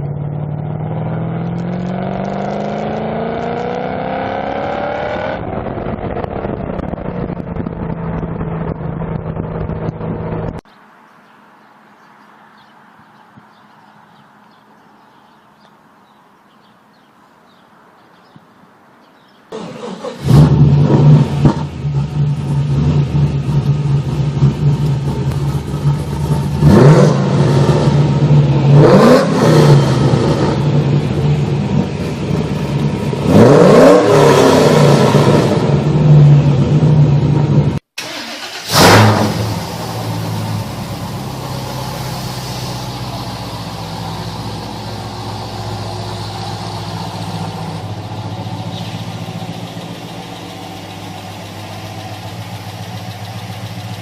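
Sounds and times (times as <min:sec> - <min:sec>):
car engine idling and revving: 0:00.0 - 0:10.7, 0:19.5 - 0:54.0.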